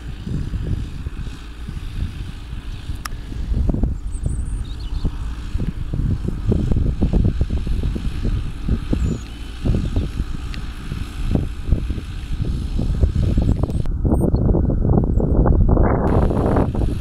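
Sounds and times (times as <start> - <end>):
tractor diesel engine under load: 0.0 - 14.0, 16.1 - 17.0
wind on microphone: 0.0 - 17.0.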